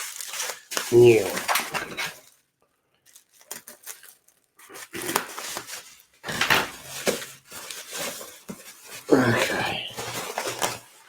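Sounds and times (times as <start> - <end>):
packaging rustling and knocking: 0.0 - 2.4, 3.0 - 11.0.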